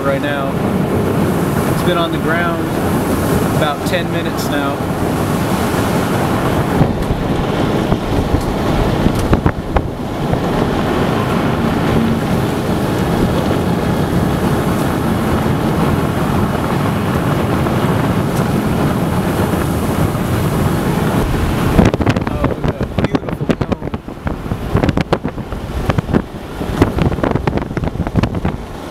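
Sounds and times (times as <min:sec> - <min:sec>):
strong wind buffeting microphone: 0:00.0 - 0:28.9.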